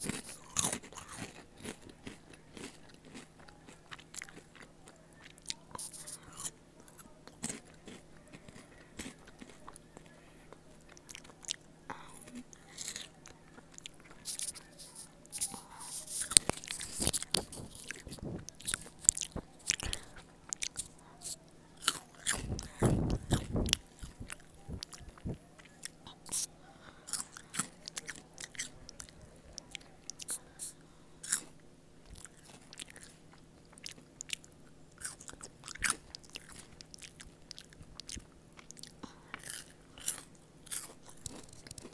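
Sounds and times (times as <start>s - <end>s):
chewing crunchy chips: 0.0s - 41.9s.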